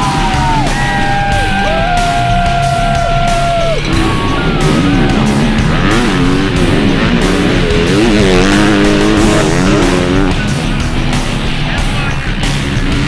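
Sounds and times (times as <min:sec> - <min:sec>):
dirt bike engines revving: 0:00.0 - 0:13.0
rock music: 0:00.0 - 0:13.0.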